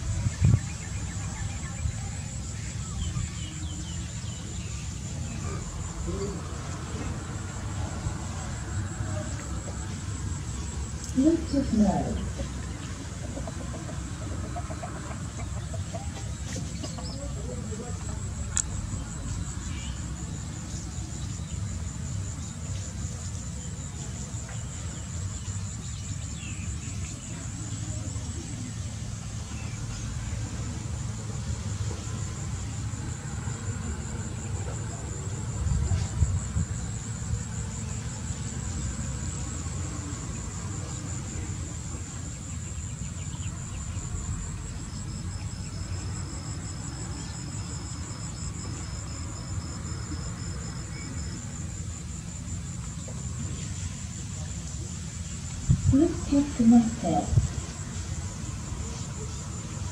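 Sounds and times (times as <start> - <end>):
high-pitched insect trill: 0.0 - 59.9
lower insect trill: 0.0 - 59.9.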